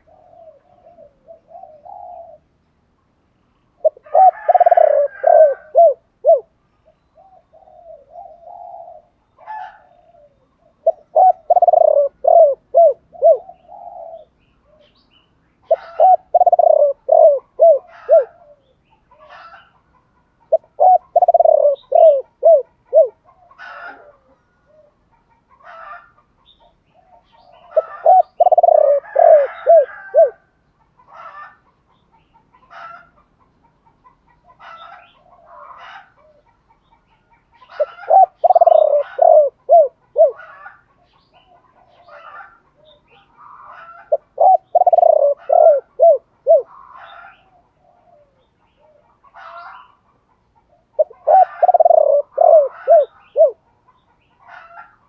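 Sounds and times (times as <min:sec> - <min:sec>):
dove cooing: 0:00.0 - 0:02.5, 0:03.8 - 0:15.0, 0:15.6 - 0:19.8, 0:20.5 - 0:30.5, 0:34.1 - 0:36.6, 0:37.3 - 0:53.7.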